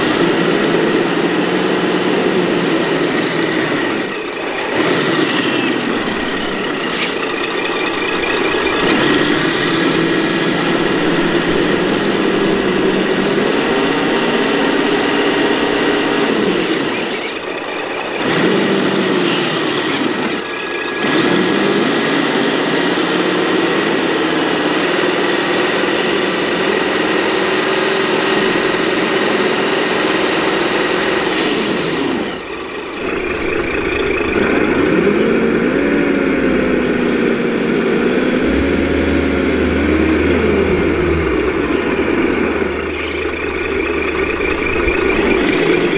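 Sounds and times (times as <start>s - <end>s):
toy truck motor whine: 0.0s - 45.9s.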